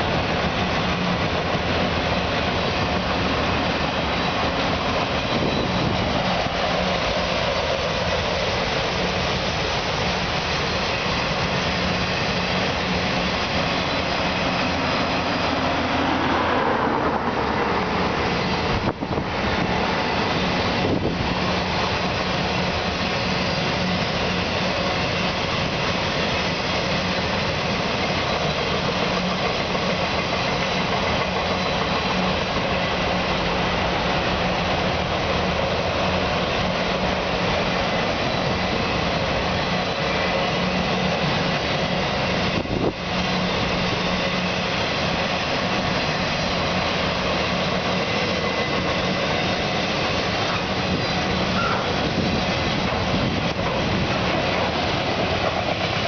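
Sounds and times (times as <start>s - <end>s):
steel wheels running on rail: 0.0s - 56.0s.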